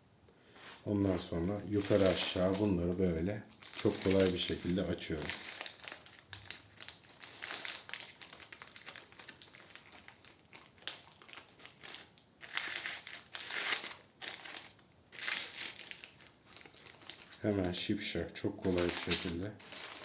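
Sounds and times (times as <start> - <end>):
foil crinkling: 1.1 - 20.0.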